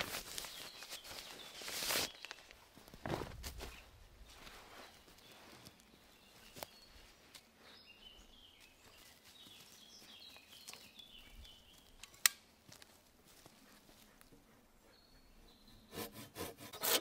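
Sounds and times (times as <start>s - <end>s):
faint forest background: 0.0s - 17.0s.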